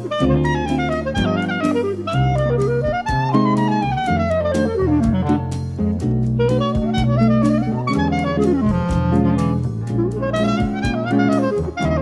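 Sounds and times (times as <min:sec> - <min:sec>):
clarinet melody: 0:00.0 - 0:12.0
drums with cymbal taps: 0:00.0 - 0:12.0
walking double bass: 0:00.0 - 0:12.0.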